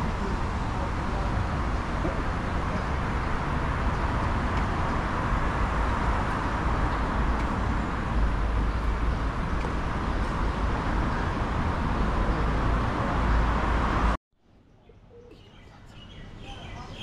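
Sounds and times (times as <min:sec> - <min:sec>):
city street noise: 0:00.0 - 0:17.0.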